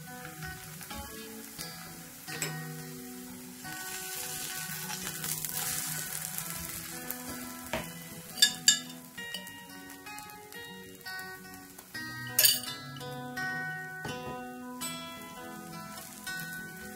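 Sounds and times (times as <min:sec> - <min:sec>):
pancake sizzling in oil: 0:00.0 - 0:16.9.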